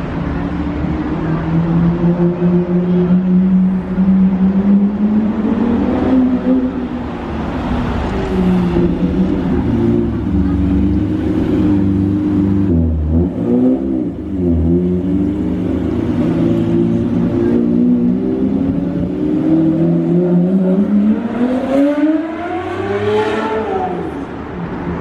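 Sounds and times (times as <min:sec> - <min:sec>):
loud car engine revving: 0:00.0 - 0:24.4.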